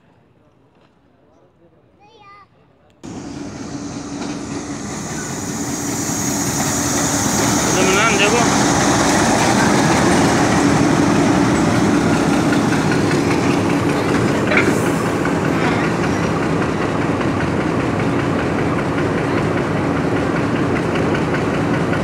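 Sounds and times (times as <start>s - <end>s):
diesel locomotive engine running: 3.0s - 22.0s
rail noise rumble: 3.0s - 22.0s.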